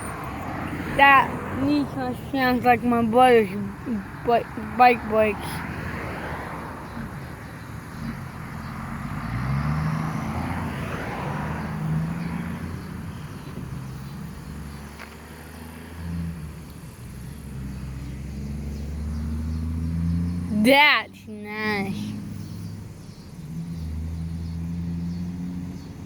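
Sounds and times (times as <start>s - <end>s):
diesel truck engine drone: 0.0s - 26.0s
tyre and road noise: 0.0s - 26.0s.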